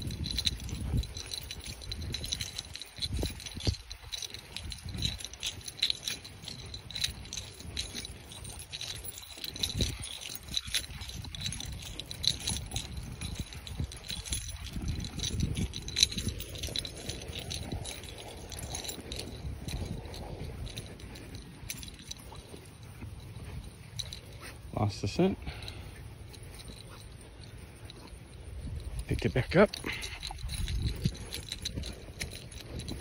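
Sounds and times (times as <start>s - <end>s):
metal parts jingling: 0.0s - 33.0s.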